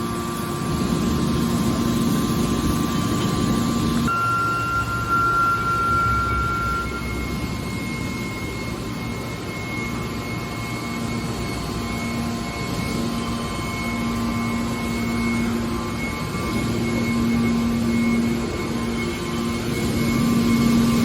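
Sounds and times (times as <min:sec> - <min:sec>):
press baler machine drone: 0:00.0 - 0:21.0.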